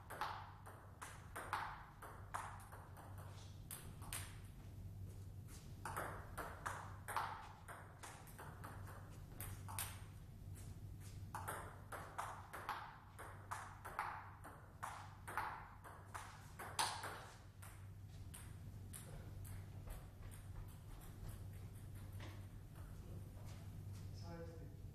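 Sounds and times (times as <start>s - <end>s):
ping pong ball clicking: 0.0s - 4.5s, 5.8s - 10.1s, 11.4s - 22.9s.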